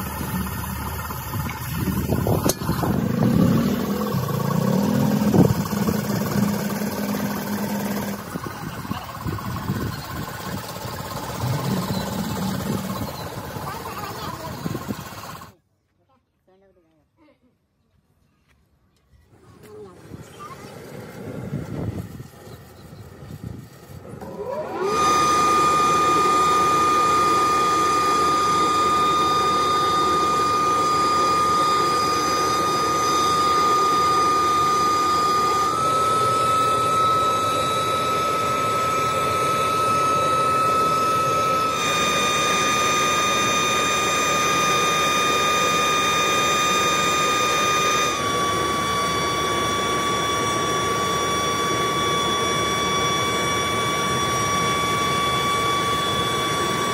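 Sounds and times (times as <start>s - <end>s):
blower high whine: 0.0s - 15.6s, 19.3s - 56.9s
burner air blower roaring: 0.0s - 15.6s, 19.6s - 56.9s.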